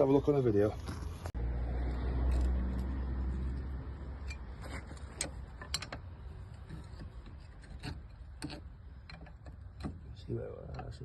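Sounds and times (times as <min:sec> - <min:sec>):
low vehicle rumble: 0:00.8 - 0:11.0.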